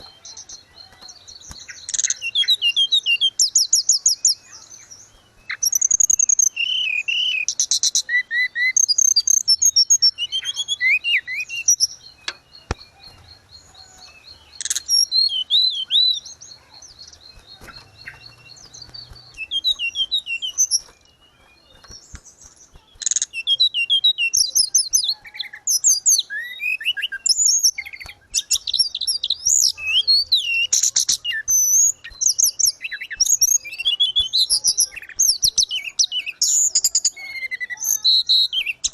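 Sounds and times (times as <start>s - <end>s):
buzzy bird trill: 0.0s - 38.9s
songbird singing: 0.0s - 38.9s.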